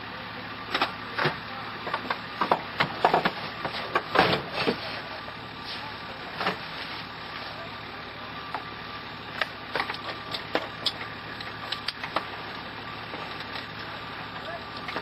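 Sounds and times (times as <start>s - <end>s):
engine idling inside cab: 0.0s - 15.0s.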